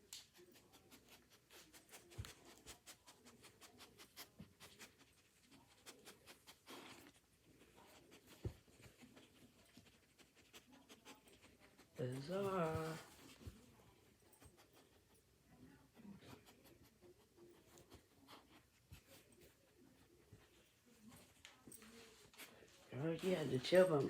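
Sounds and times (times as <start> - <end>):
faint clicks and rustles: 0.0 - 15.5, 16.2 - 24.0.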